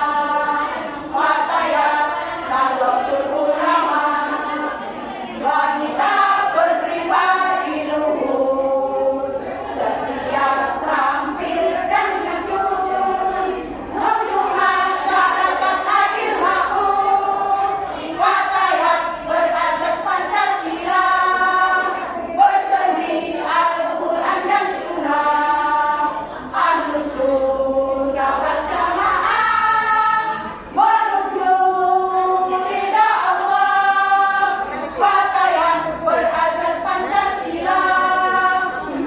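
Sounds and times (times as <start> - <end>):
women's choir singing: 0.0 - 39.0.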